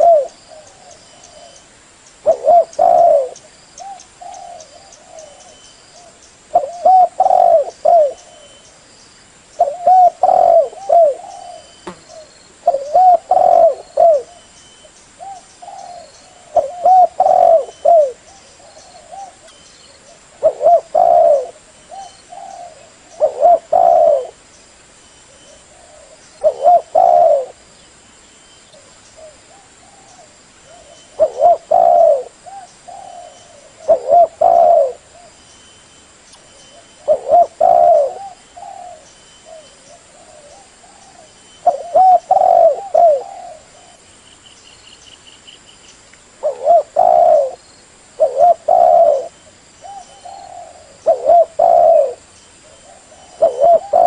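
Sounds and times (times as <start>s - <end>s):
dove cooing: 0.0s - 1.6s, 2.2s - 8.6s, 9.6s - 14.5s, 15.2s - 24.4s, 25.3s - 27.6s, 28.8s - 35.4s, 36.7s - 44.0s, 46.4s - 47.6s, 48.2s - 54.0s.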